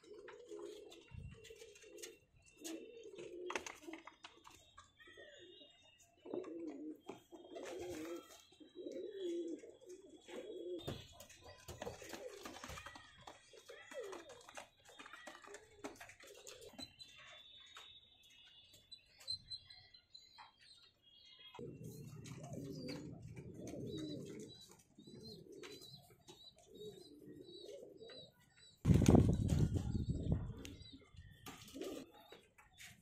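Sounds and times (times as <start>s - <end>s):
pigeons cooing: 0.0s - 17.3s, 21.6s - 33.0s.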